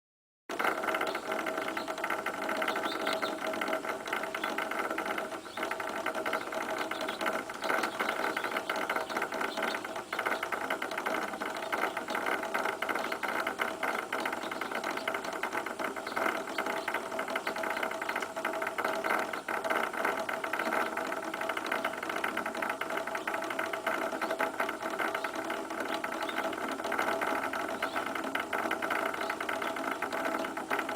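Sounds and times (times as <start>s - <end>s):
machine rattling and humming: 0.5s - 30.9s.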